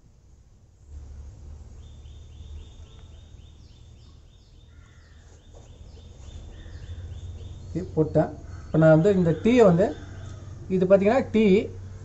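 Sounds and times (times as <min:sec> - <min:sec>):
bird chirps: 0:01.2 - 0:11.0.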